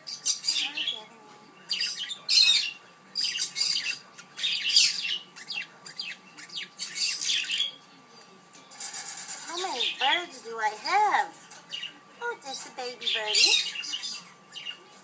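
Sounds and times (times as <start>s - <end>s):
parrots squawking: 0.0s - 7.8s, 9.0s - 14.8s.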